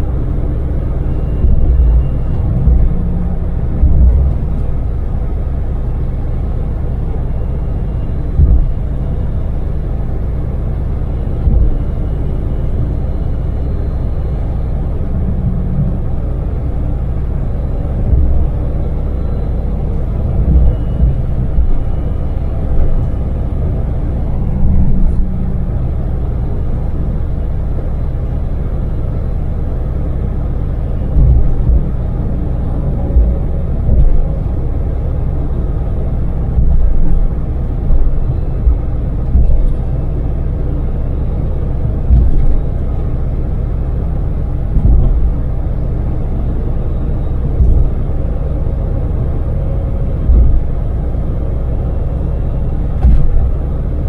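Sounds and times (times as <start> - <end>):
road noise: 0.0 - 54.0
van engine rumble: 0.0 - 54.0
low thumps: 0.1 - 5.9, 8.2 - 9.9, 11.3 - 13.5, 14.3 - 27.9, 30.0 - 52.2, 52.8 - 54.0.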